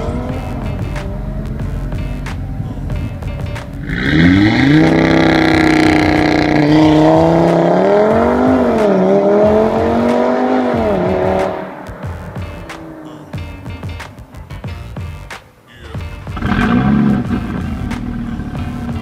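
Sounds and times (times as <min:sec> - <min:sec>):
car engine revving with gear shifts: 0:00.0 - 0:13.0, 0:16.4 - 0:19.0.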